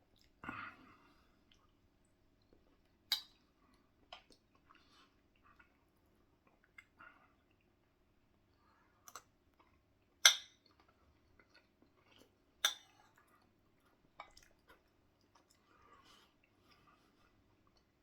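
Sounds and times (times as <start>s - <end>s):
quiet chewing: 0.1s - 18.0s.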